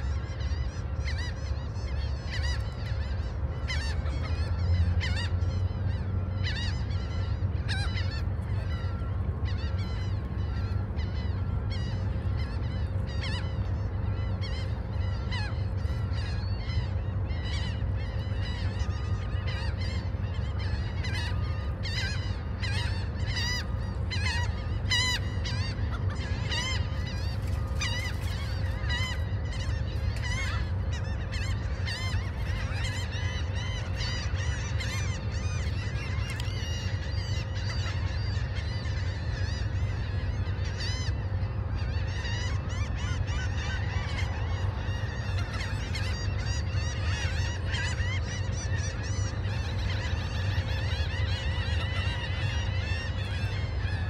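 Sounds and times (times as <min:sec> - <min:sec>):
gulls calling: 0:00.0 - 0:54.0.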